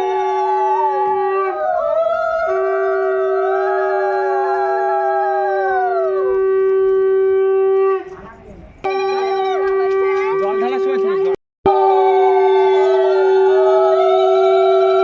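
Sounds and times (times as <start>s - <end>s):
conch shell steady note: 0.0s - 8.2s, 8.8s - 15.0s.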